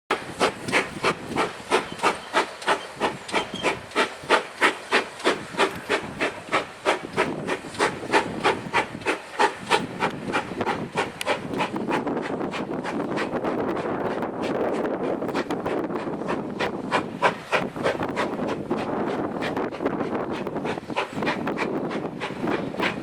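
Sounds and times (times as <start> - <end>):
steam locomotive chuffing: 0.1 - 23.0.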